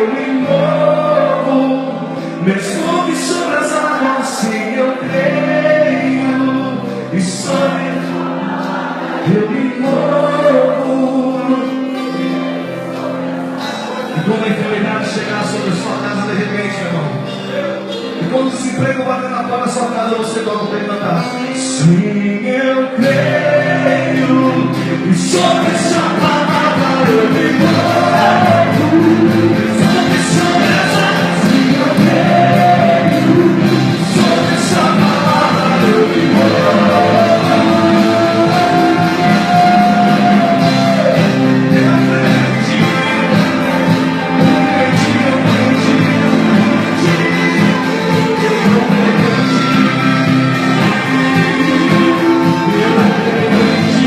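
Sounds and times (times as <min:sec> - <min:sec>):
group singing gospel song: 0:00.0 - 0:14.9, 0:22.7 - 0:54.0
band playing worship music: 0:00.0 - 0:54.0.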